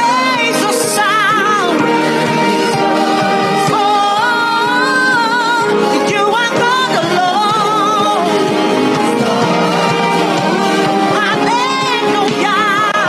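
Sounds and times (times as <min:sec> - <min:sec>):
instrumental accompaniment: 0:00.0 - 0:13.0
person singing with vibrato: 0:00.0 - 0:13.0.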